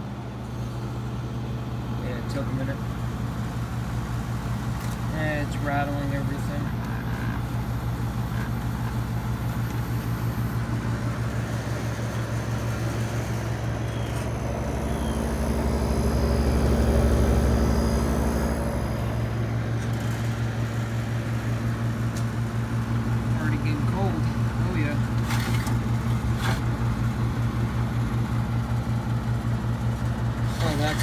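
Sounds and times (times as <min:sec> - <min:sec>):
air conditioner humming: 0:00.0 - 0:31.0
deep low hum: 0:00.5 - 0:28.0.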